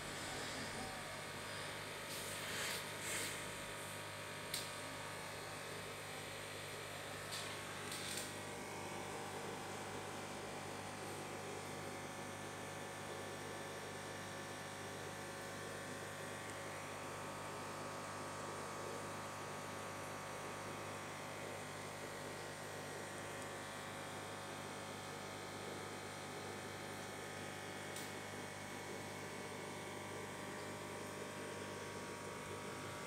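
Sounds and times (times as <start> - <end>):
aquarium air pump humming: 0.0 - 33.0.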